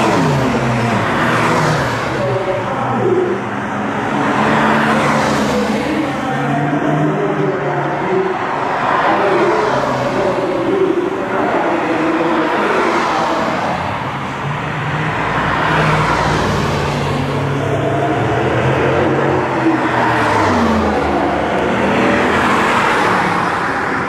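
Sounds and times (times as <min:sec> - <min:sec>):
cars driving past: 0:00.0 - 0:24.0.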